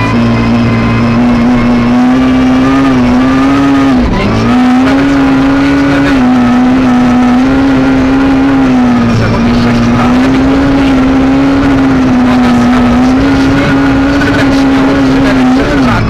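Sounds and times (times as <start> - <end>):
rally car engine revving high: 0.0 - 16.0.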